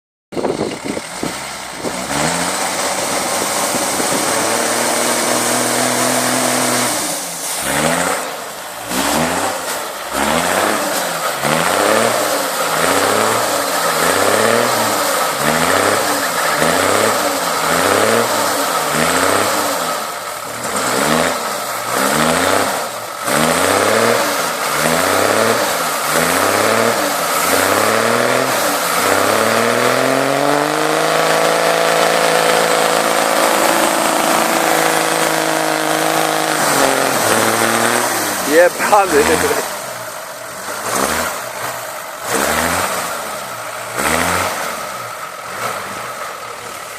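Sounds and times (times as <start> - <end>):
off-road vehicle engine revving: 0.4 - 46.9.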